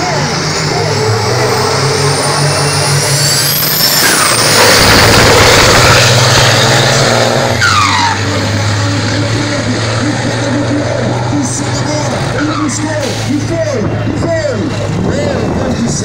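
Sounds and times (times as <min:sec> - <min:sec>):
diesel trucks accelerating: 0:00.0 - 0:16.0.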